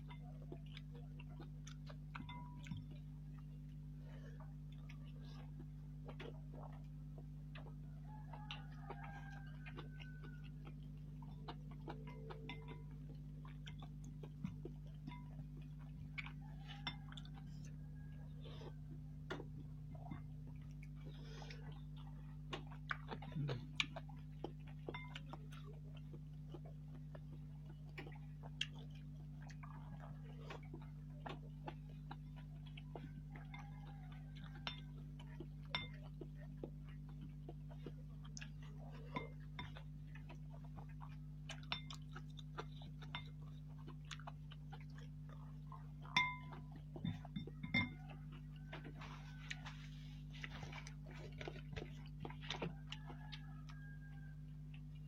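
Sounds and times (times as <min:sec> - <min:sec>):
chewing noodles: 0:00.0 - 0:55.0.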